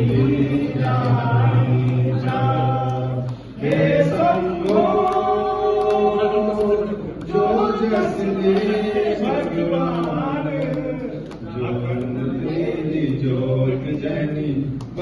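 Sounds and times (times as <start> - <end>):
group singing devotional song: 0.0 - 15.0.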